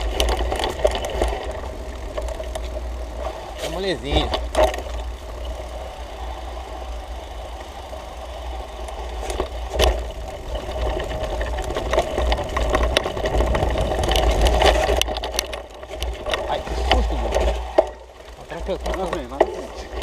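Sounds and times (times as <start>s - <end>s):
bike rattling: 0.0s - 20.0s
bike tyres on dirt trail: 0.0s - 20.0s
wind rumbling on microphone: 0.0s - 20.0s.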